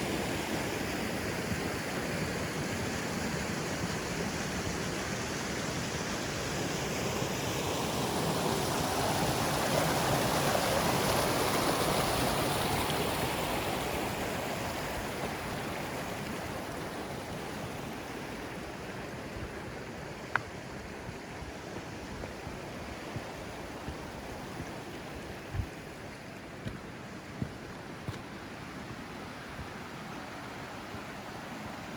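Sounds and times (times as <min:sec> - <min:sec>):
mountain stream rushing: 0:00.0 - 0:31.9.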